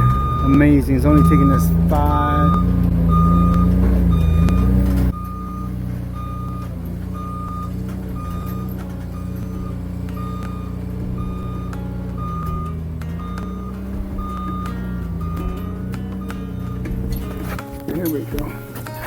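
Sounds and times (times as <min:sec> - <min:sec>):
warning alarm beeping: 0:00.0 - 0:18.0
machine engine running: 0:00.0 - 0:19.0.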